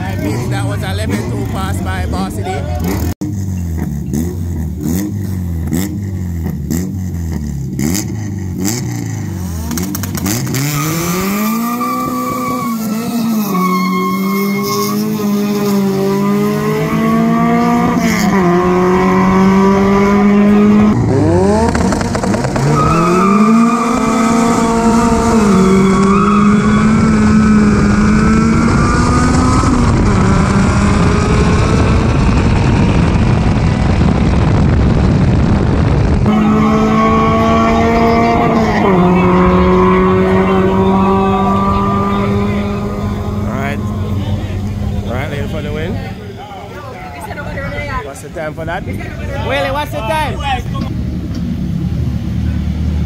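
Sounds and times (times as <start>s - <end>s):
drag car engine revving: 0.0s - 53.0s.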